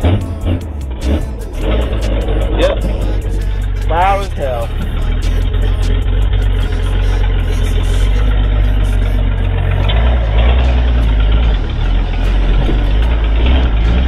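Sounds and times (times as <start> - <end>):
pickup truck engine running: 0.0 - 14.0.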